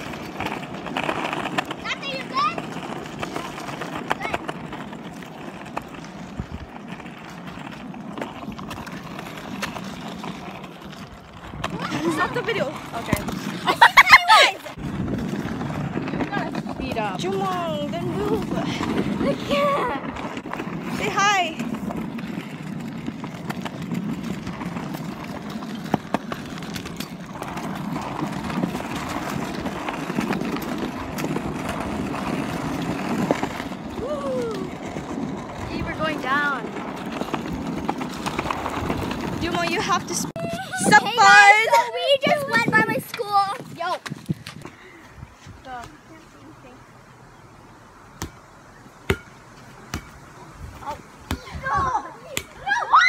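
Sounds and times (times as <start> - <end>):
skateboard clacks: 0.0 - 44.6
skateboard wheels rolling on concrete: 0.0 - 53.0.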